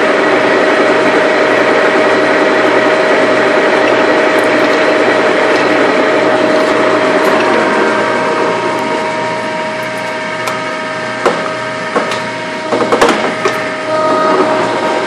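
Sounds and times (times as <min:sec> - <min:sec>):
lathe gear whir and clatter: 0:00.0 - 0:15.0.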